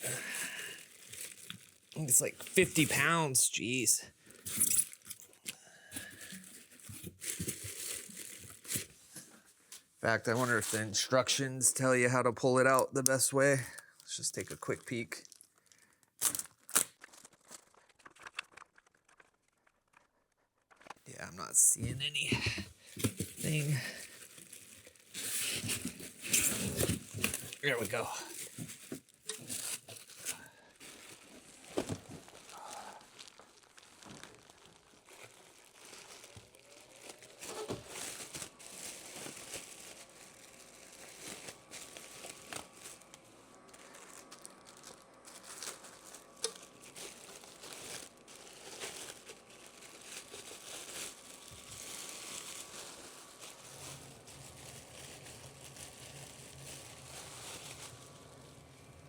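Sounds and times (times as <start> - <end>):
packaging crinkling and rustling: 0.0 - 11.8, 12.6 - 59.0.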